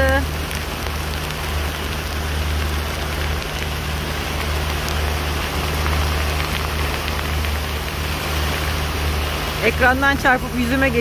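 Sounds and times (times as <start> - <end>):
heavy rain and hail pelting: 0.0 - 11.0
steady low hum: 0.0 - 11.0.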